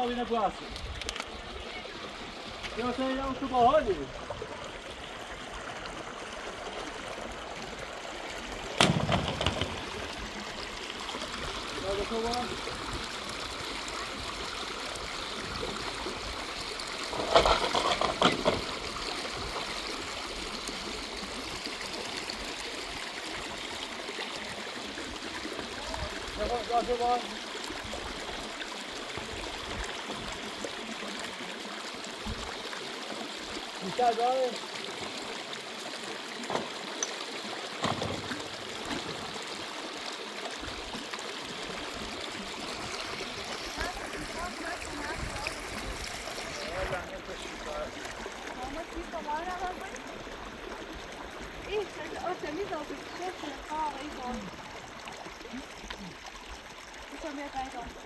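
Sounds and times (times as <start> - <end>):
water running: 0.0 - 58.0.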